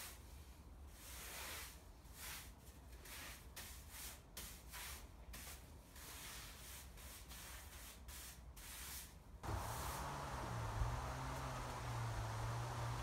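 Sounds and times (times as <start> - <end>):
brush sweeping sawdust: 1.0 - 13.0.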